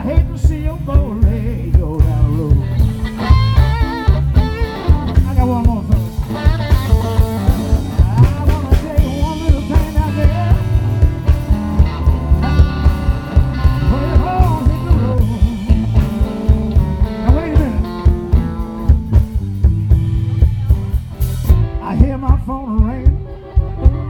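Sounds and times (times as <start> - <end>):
bass: 0.0 - 24.0
drums keeping a beat: 0.0 - 24.0
electric guitar solo: 2.1 - 24.0.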